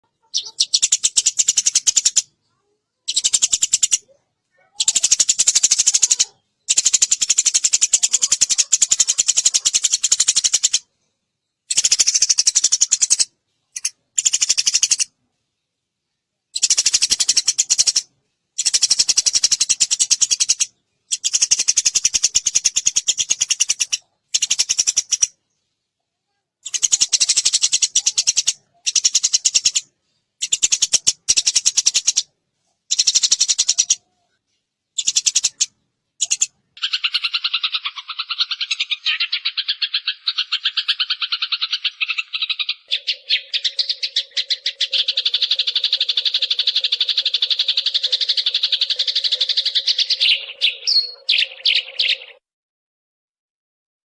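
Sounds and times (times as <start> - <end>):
sparrow chirping: 0.0 - 10.9, 11.6 - 15.2, 16.5 - 25.6, 26.6 - 32.3, 32.9 - 34.1, 34.9 - 52.4.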